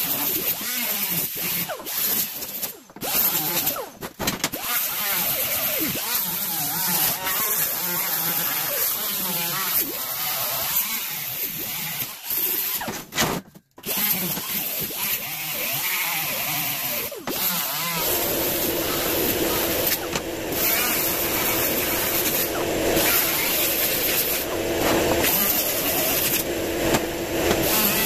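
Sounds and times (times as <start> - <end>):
die grinder grinding steel: 0.0 - 13.1, 13.8 - 28.0.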